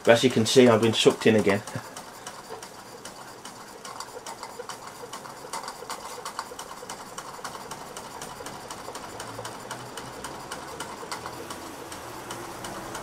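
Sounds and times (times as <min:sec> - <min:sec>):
model steam engine clicking: 0:00.0 - 0:13.0
steam hissing: 0:00.0 - 0:13.0.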